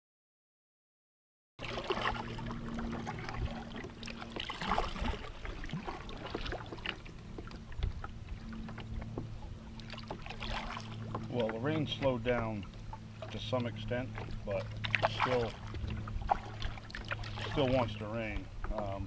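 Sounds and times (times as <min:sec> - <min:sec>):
kayak paddle splashing in water: 0:01.6 - 0:18.9.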